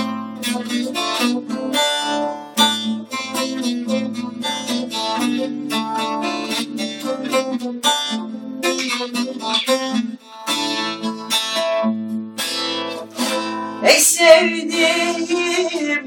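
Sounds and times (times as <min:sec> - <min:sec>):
plucked string instruments playing: 0:00.0 - 0:16.0.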